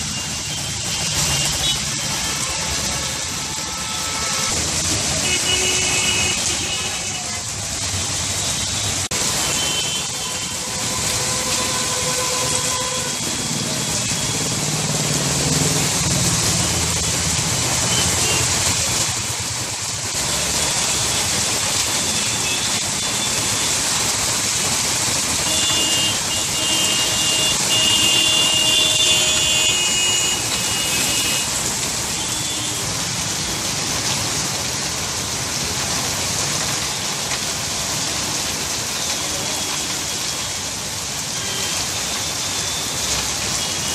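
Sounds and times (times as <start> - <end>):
heavy rain on road: 0.0 - 43.9
vehicles driving through water: 0.0 - 43.9.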